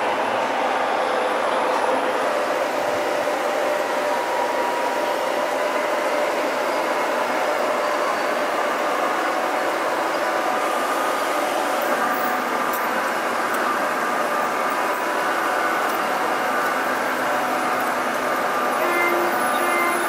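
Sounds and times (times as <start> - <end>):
model train wheels rumbling on track: 0.0 - 20.0.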